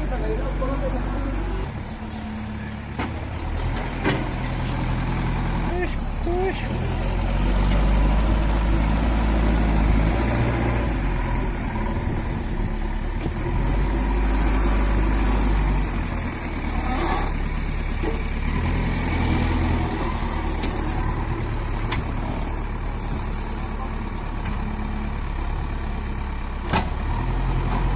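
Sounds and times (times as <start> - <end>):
diesel engine running under load: 0.0 - 27.9.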